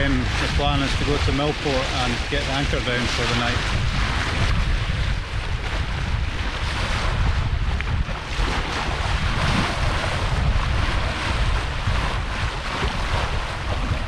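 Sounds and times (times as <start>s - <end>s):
water splashing along hull: 0.0s - 14.0s
wind buffeting microphone: 0.0s - 14.0s.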